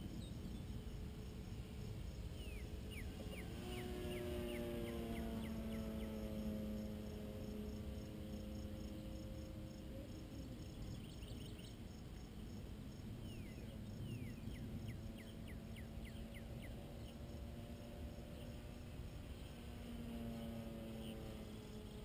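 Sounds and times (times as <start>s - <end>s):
model airplane motor hum: 0.0s - 12.4s, 13.7s - 22.0s
insects pulsing: 0.0s - 22.0s
wind rumble on microphone: 0.0s - 22.0s.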